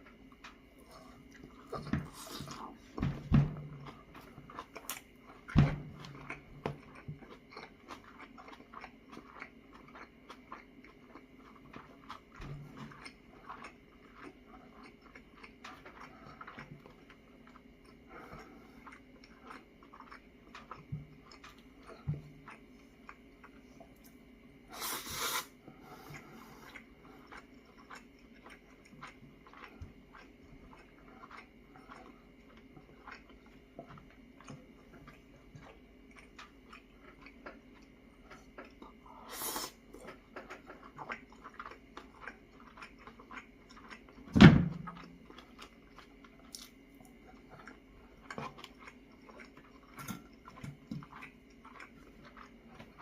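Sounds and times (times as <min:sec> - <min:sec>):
close-up chewing: 0:00.0 - 0:53.0.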